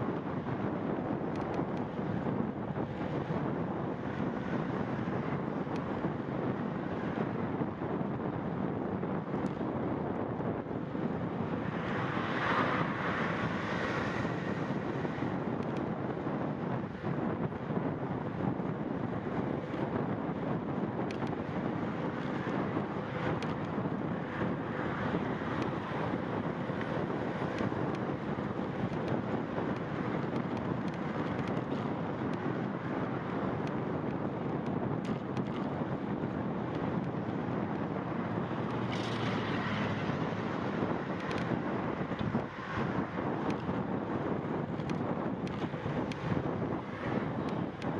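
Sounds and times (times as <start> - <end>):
wind rush on microphone: 0.0 - 47.9.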